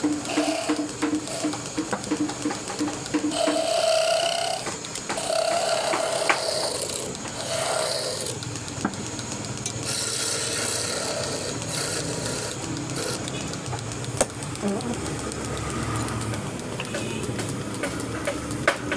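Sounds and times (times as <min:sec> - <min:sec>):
sharp clicks: 0:00.0 - 0:18.9
tool rasping on wood: 0:00.0 - 0:18.9.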